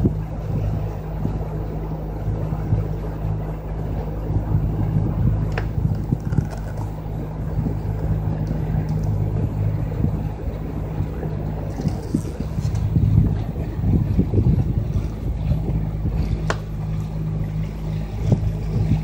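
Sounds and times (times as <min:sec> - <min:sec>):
boat motor humming: 0:00.0 - 0:19.0
water and air noise: 0:00.0 - 0:19.0.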